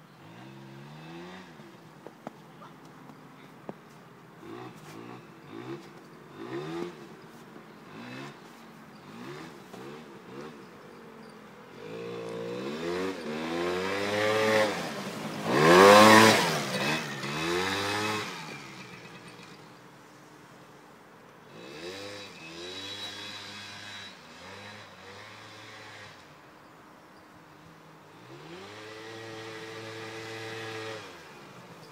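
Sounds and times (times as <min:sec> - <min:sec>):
quad bike engine revving: 0:00.0 - 0:01.8, 0:04.4 - 0:19.9, 0:21.4 - 0:26.4, 0:27.5 - 0:31.9.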